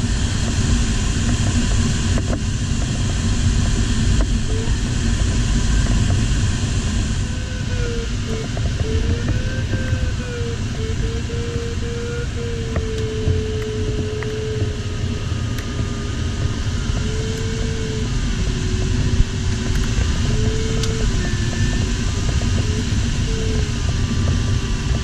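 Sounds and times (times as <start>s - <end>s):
airflow rush in cockpit: 0.0s - 25.0s
variometer low tone: 1.2s - 25.0s.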